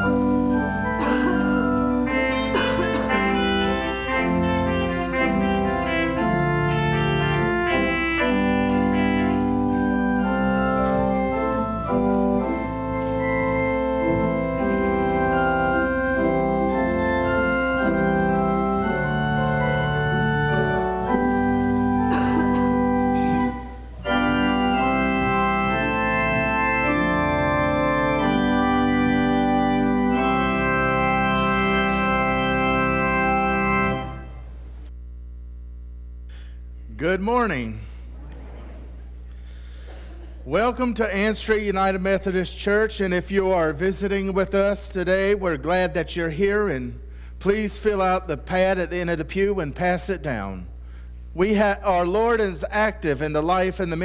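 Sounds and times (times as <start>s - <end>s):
organ playing held chords: 0.0s - 54.0s.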